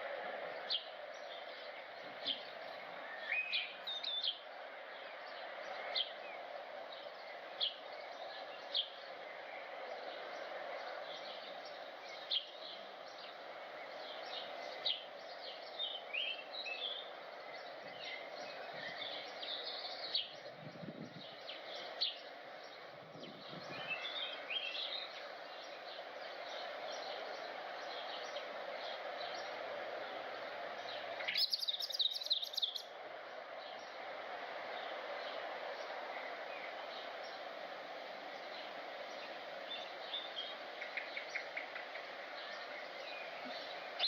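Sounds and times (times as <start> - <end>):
small birds chirping: 0.0 - 44.0
steady background noise: 0.0 - 44.0.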